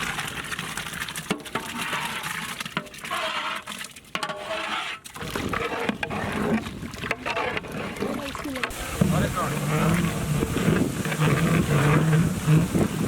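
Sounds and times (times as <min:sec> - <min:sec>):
wet sloshing in a cooking pot: 0:00.0 - 0:13.0.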